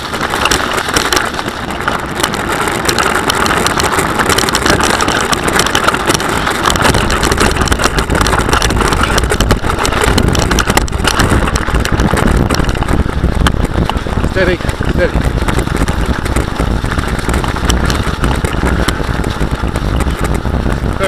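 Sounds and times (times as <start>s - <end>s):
bike rattling clicks and knocks: 0.0s - 21.0s
tyre and wind noise: 0.0s - 21.0s.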